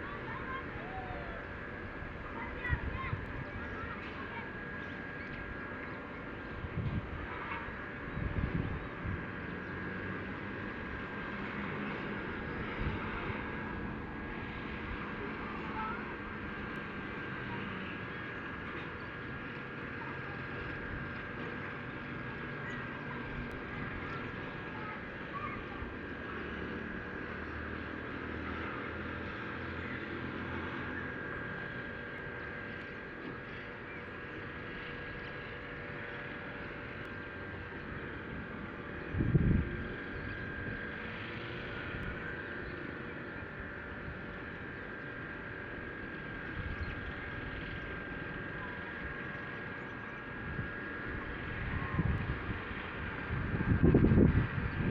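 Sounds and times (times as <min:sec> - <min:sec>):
low motor hum: 0:00.0 - 0:54.9.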